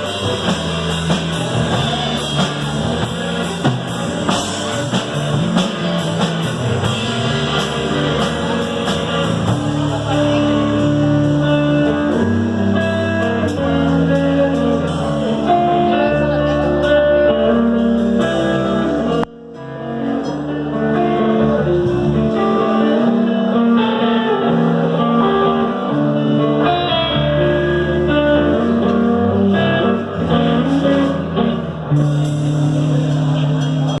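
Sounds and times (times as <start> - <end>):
live band playing guitar-led music: 0.0 - 34.0.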